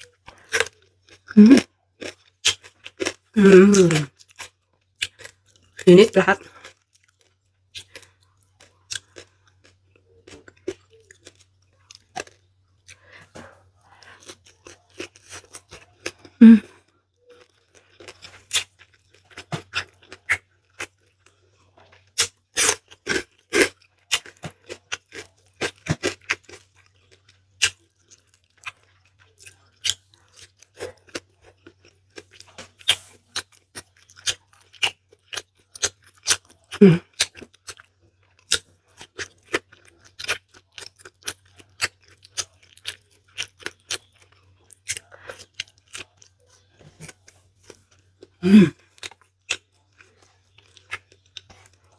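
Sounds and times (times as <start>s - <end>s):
wet chewing and lip-smacking: 0.0s - 51.9s.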